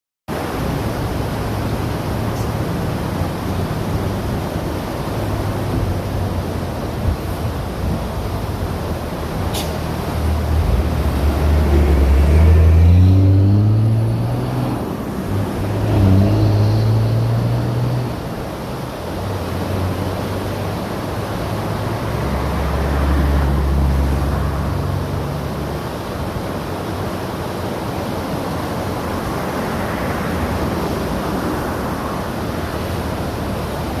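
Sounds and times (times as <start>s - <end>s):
low engine hum: 0.3s - 34.0s
river water rushing: 0.3s - 34.0s
vehicles passing: 0.3s - 34.0s.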